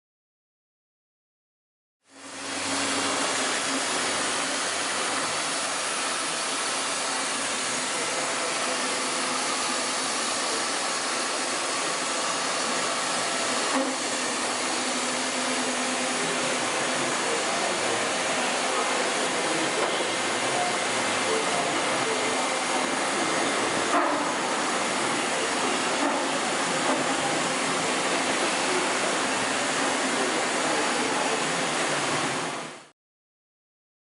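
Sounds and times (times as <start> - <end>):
machine whirring and hissing: 2.1 - 32.9.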